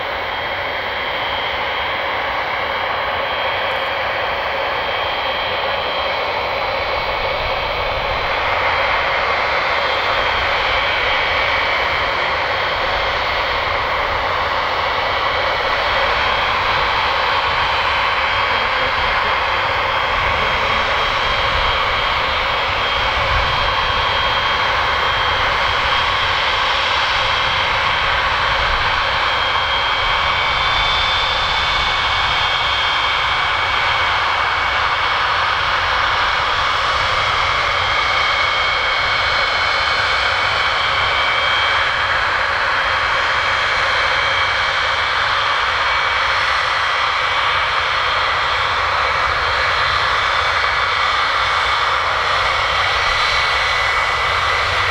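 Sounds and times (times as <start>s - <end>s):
jet engines whining: 0.0s - 54.9s.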